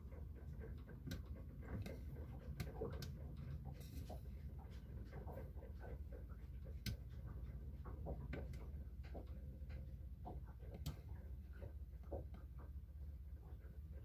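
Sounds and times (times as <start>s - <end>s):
faint low hum: 0.0s - 14.0s
light clicks and taps: 0.1s - 14.0s.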